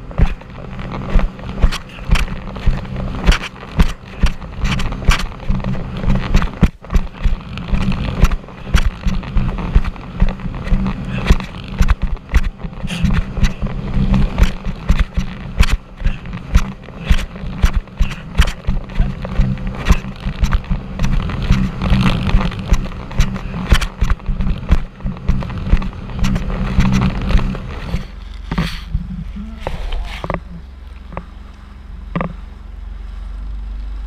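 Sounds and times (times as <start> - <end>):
hull slapping water: 0.0 - 34.0
watercraft engine drone: 0.0 - 34.0.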